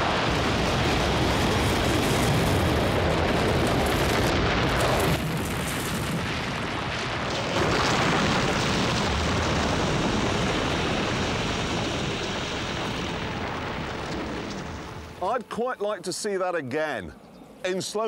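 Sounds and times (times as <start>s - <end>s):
stones and wreckage flying: 0.0s - 15.2s.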